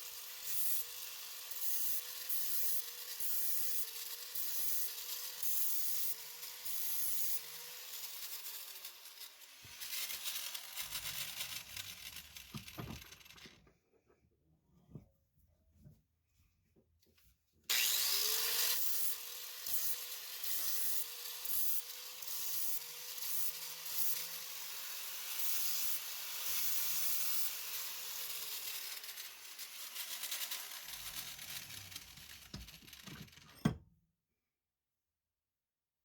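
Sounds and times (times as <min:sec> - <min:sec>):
electric grinder grinding steel: 0:00.0 - 0:13.5, 0:17.7 - 0:33.5.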